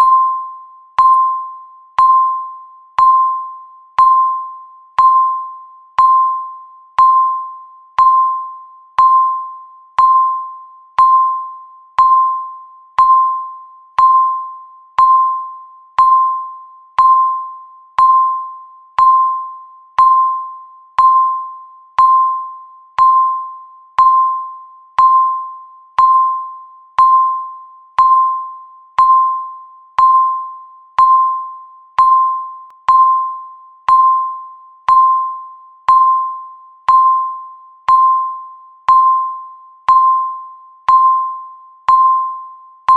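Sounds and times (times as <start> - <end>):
electronic timer beeps: 0.0 - 42.9.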